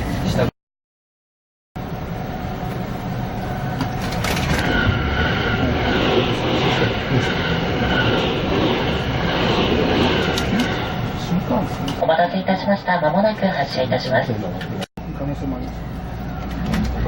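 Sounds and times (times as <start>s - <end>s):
train rumble inside passenger car: 1.9s - 12.2s, 13.2s - 17.0s.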